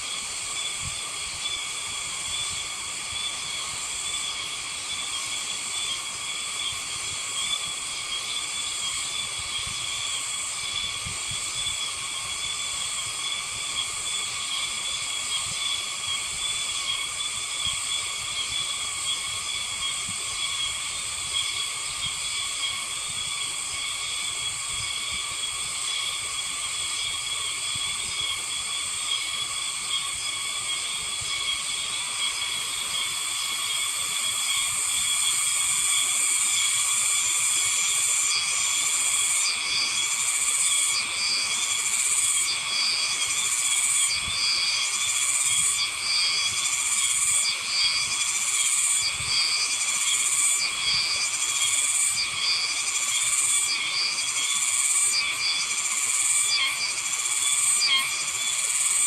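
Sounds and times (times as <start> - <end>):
cicadas buzzing: 0.0 - 59.0
rhythmic pulsed insect call: 0.0 - 59.0.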